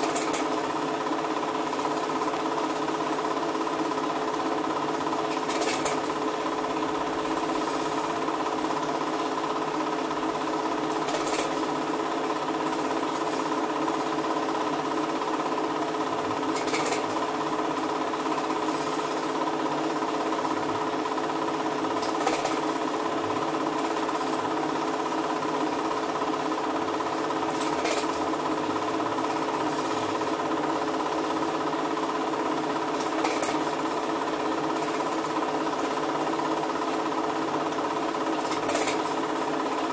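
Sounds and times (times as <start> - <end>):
film projector clatter: 0.0 - 39.9.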